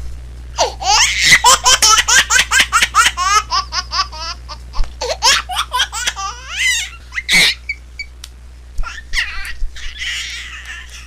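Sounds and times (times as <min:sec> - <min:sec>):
baby laughing: 0:00.6 - 0:07.8, 0:08.8 - 0:11.0.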